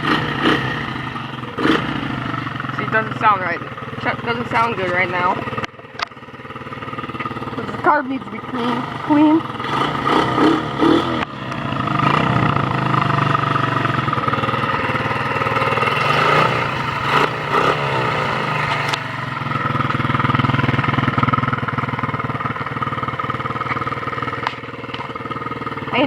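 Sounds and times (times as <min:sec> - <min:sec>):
small motorbike engine idling: 0:00.0 - 0:26.0.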